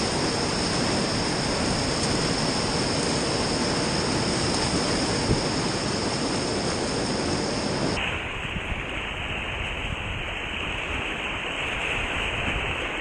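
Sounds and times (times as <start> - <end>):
rushing whitewater river: 0.0 - 13.0.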